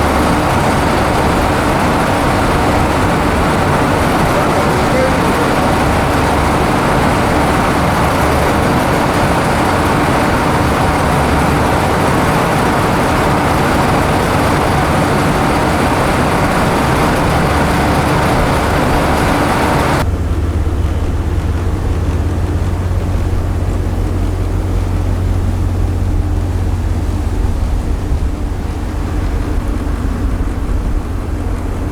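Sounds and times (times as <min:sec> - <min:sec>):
low ship engine drone: 0:00.0 - 0:31.9
wind rushing over microphone: 0:00.0 - 0:31.9.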